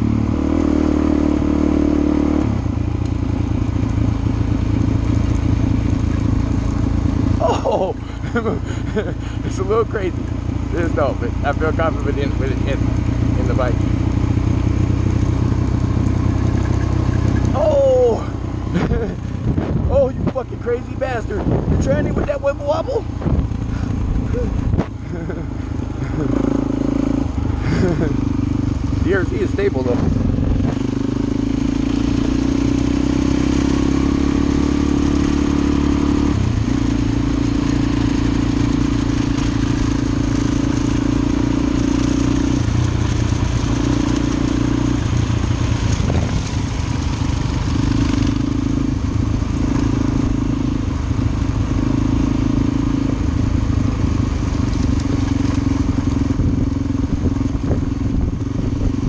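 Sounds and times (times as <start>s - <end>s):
motorcycle engine running: 0.0s - 59.0s
wind: 0.0s - 59.0s.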